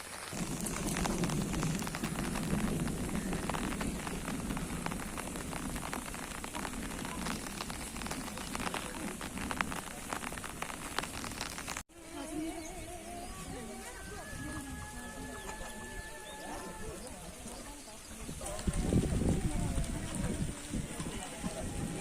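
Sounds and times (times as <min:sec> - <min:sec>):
heavy rain on hard surfaces: 0:00.0 - 0:22.0.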